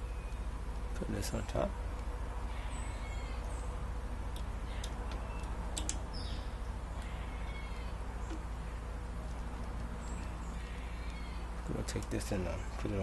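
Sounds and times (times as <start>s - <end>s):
faint chirping calls: 0.0s - 13.0s
steady low hum: 0.0s - 13.0s.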